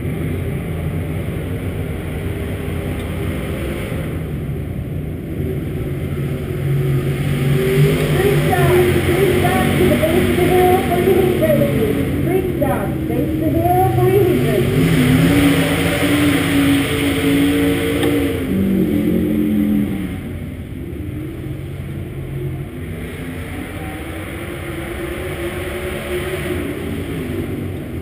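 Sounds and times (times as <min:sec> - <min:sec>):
race car engine running: 0:00.0 - 0:28.0.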